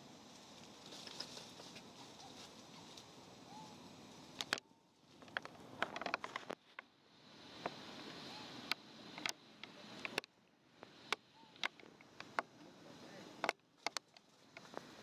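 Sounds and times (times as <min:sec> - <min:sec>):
clicks and crackles on dry leaves: 0:00.0 - 0:06.9, 0:07.5 - 0:15.0
faint hiss: 0:00.0 - 0:15.0.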